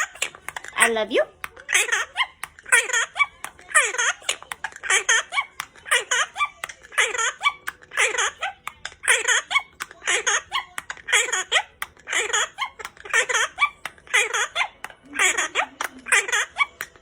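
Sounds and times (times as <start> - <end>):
parrot mimicking speech: 0.0 - 17.0.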